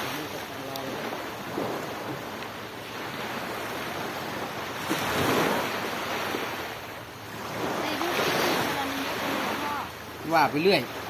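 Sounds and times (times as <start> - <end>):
sea waves washing on beach: 0.0 - 11.0.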